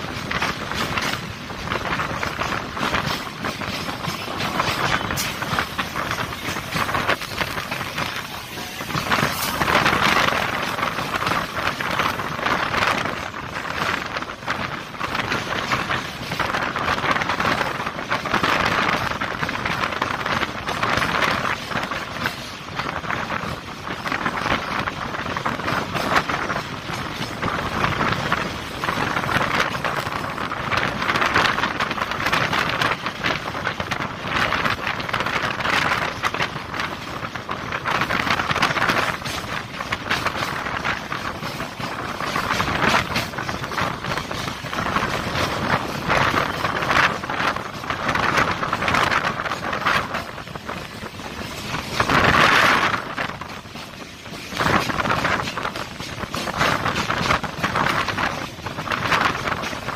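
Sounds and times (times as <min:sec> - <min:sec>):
electric train running: 0:00.0 - 0:59.9
wheels clattering on rails: 0:00.0 - 0:59.9
wind rushing past microphone: 0:00.0 - 0:59.9.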